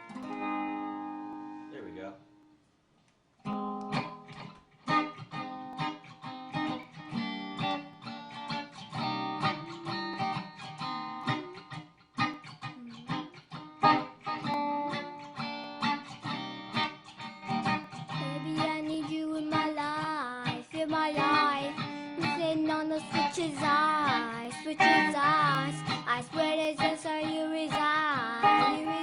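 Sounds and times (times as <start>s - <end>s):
plucked string instrument: 0.0s - 1.8s, 3.5s - 29.0s.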